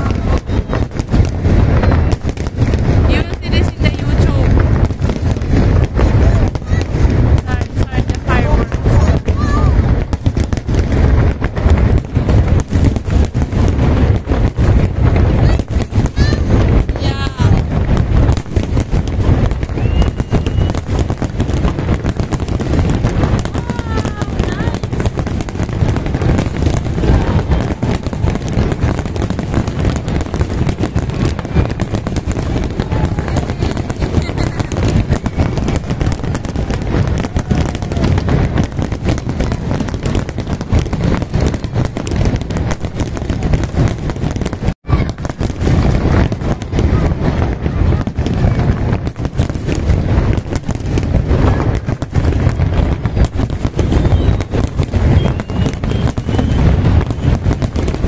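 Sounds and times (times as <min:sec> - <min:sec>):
deep fireworks booms: 0:00.0 - 0:58.0
fireworks bangs and crackle: 0:00.0 - 0:58.0.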